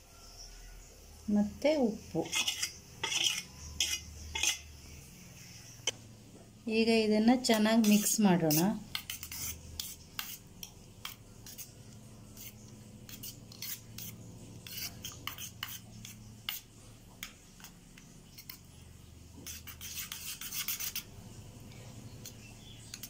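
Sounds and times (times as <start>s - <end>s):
spoon scraping metal bowl: 2.2s - 6.0s, 7.4s - 18.7s, 19.4s - 23.0s.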